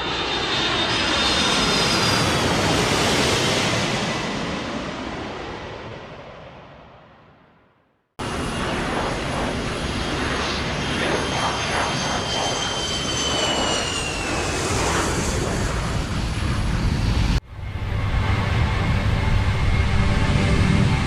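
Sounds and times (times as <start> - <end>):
airplane engines roaring with whine: 0.0 - 7.6, 8.2 - 21.0.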